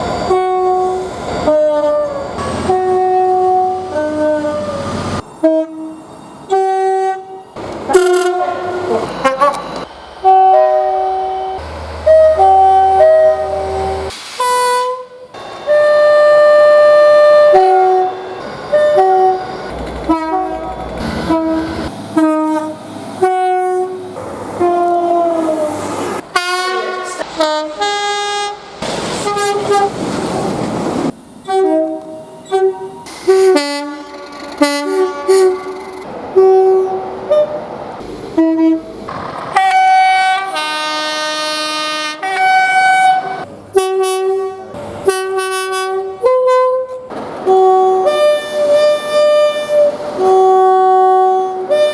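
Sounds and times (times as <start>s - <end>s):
rushing train noise: 0.0s - 51.9s
train horn blasts: 0.2s - 29.9s, 31.4s - 37.6s, 38.4s - 51.9s.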